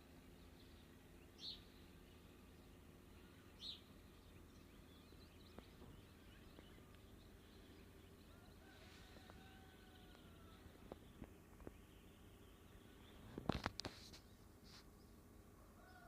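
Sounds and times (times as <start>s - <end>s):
low steady background noise: 0.0s - 16.0s
soft bird chirps: 0.0s - 16.0s.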